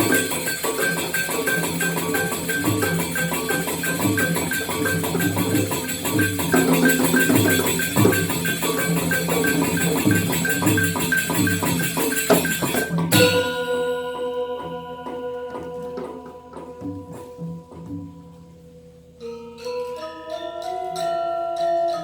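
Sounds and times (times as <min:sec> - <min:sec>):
gamelan metallophones playing: 0:00.0 - 0:18.6, 0:19.2 - 0:22.0
drum strokes: 0:00.0 - 0:18.7.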